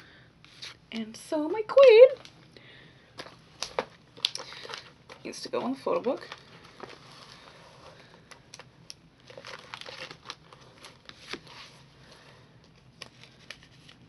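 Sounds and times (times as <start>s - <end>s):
plastic pages crinkling: 1.8s - 2.5s, 3.2s - 14.0s.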